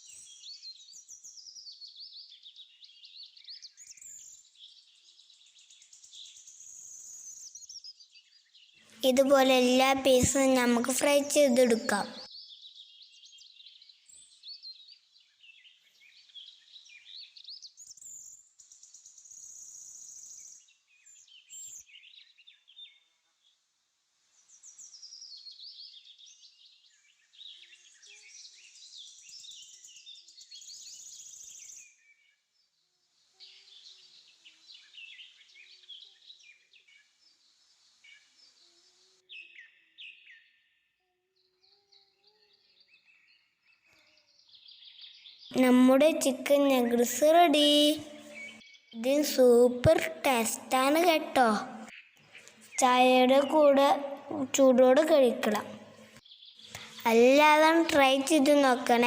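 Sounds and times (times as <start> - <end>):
faint birds chirping: 0.0 - 59.0.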